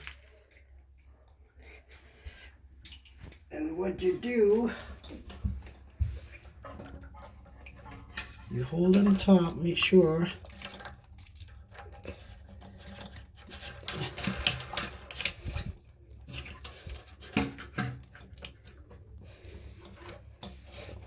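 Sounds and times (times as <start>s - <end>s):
rubbing and scraping of toilet parts: 0.0s - 21.0s.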